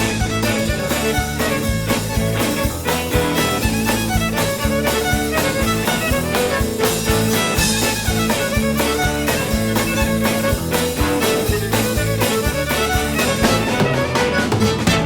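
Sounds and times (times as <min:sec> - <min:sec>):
instrumental band music: 0:00.0 - 0:15.0.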